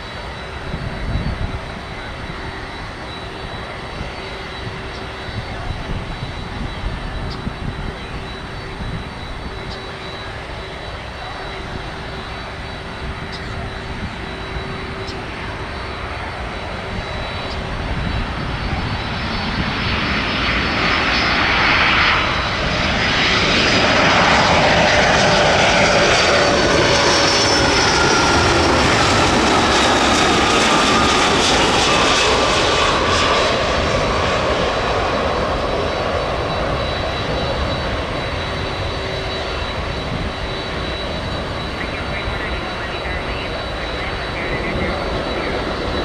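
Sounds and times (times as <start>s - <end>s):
jet engines roaring past: 0.0s - 46.0s.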